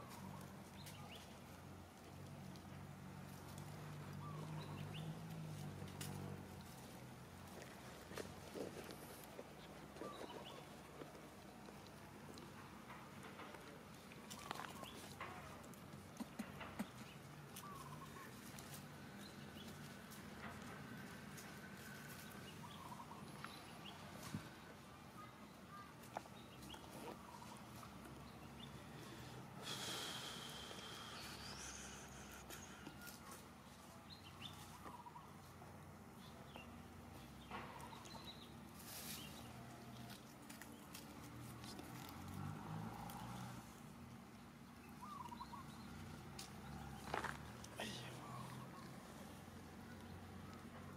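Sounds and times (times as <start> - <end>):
clicks and rustles in leaves: 0.0 - 24.9, 30.9 - 35.6, 37.1 - 50.9.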